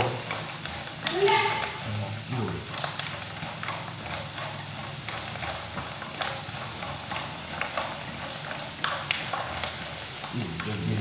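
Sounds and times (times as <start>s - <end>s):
pasta sizzling in oil: 0.0s - 11.0s.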